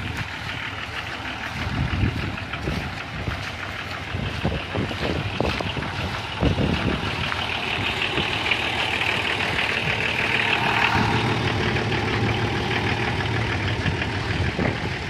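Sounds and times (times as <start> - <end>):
footsteps on muddy road: 0.0 - 15.0
heavy vehicle engine running: 0.0 - 15.0.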